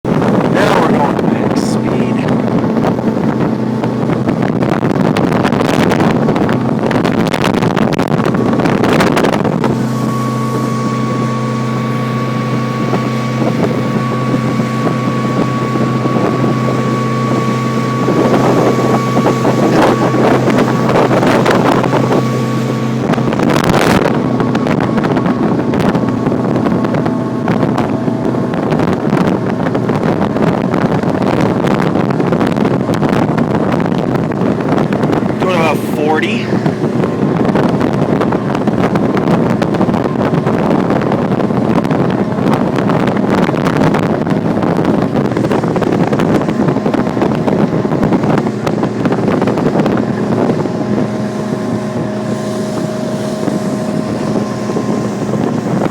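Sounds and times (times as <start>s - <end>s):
motorboat engine humming: 0.0s - 55.9s
rushing wind and water: 0.0s - 55.9s
wind buffeting microphone: 0.0s - 55.9s.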